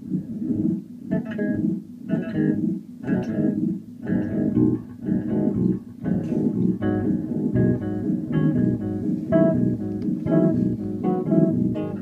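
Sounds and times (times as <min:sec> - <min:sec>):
electric bass guitar notes: 0:00.0 - 0:12.0.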